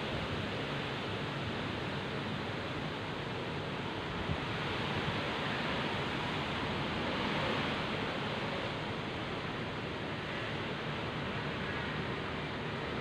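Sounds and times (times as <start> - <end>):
heavy rain in strong wind: 0.0 - 13.0.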